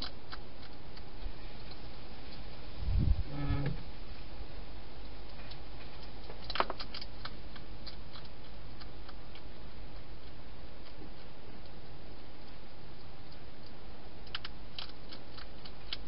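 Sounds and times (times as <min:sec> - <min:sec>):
hedgehog crunching food: 0:00.0 - 0:02.6, 0:04.1 - 0:16.0
steady low hum: 0:00.0 - 0:16.0.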